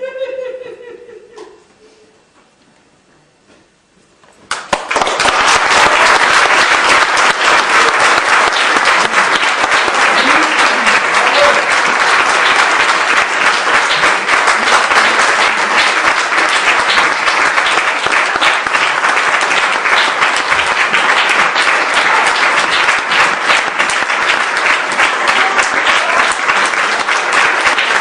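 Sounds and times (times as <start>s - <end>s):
audience applauding: 4.5s - 28.0s.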